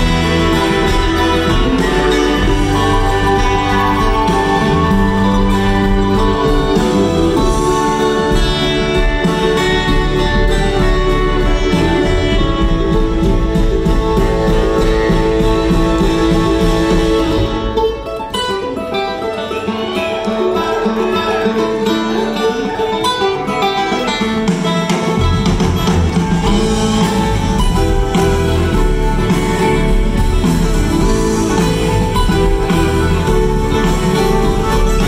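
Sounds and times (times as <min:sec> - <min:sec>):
string band playing bluegrass: 0:00.0 - 0:35.0.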